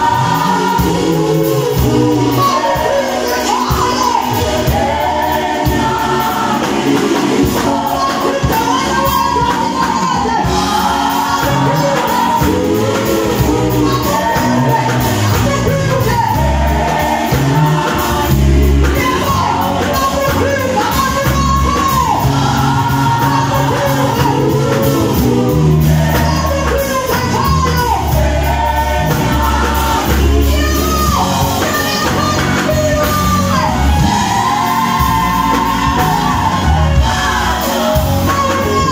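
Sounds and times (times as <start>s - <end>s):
backing band with bass line: 0.0s - 38.9s
vocal group singing: 0.0s - 38.9s.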